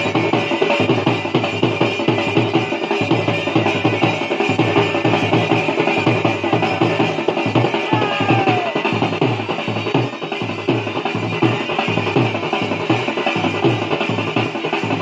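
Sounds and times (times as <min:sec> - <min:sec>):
fast dhol drumming: 0:00.0 - 0:15.0
folk dance music: 0:00.0 - 0:15.0.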